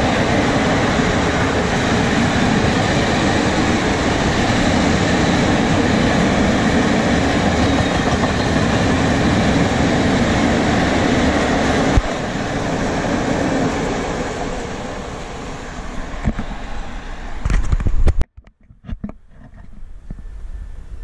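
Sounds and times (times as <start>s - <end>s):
freight train wheels rumbling: 0.0s - 17.8s.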